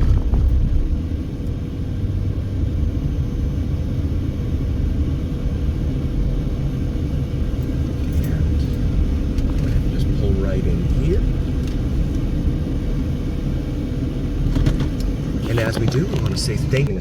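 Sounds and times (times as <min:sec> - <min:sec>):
car driving at speed: 0:00.0 - 0:17.0.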